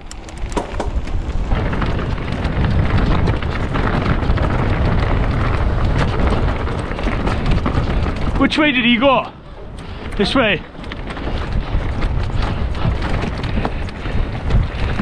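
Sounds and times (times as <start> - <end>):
bike clicks and rattles: 0.0 - 15.0
tyres on dirt and stones: 0.0 - 15.0
wind buffeting microphone: 0.0 - 15.0.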